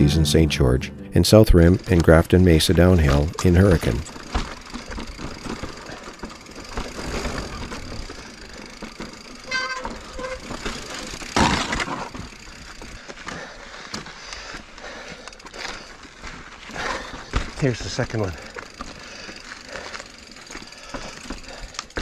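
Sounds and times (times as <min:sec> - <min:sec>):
bike clicking and rattling: 0:01.4 - 0:22.0
bike tyres rolling over rock: 0:01.6 - 0:22.0.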